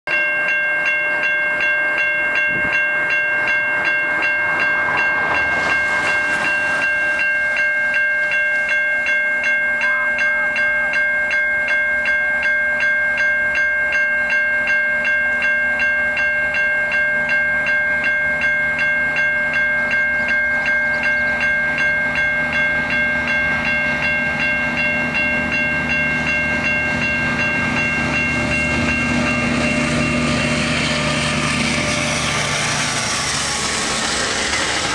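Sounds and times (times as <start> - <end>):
diesel locomotive engine drone: 0.1 - 34.9
level crossing warning bell: 0.1 - 34.9.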